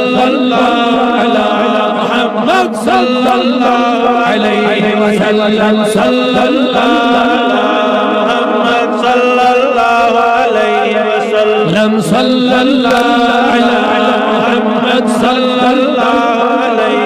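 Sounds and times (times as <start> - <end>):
men chanting unaccompanied: 0.0 - 17.0.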